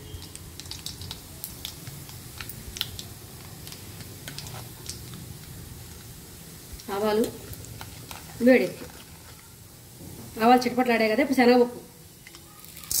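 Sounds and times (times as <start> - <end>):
seeds popping in hot oil: 0.0 - 10.7, 12.1 - 13.0.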